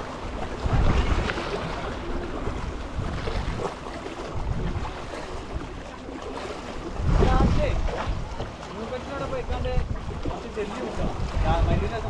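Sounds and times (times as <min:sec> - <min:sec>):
small waves washing on rocks: 0:00.0 - 0:12.0
wind buffeting microphone: 0:00.0 - 0:12.0.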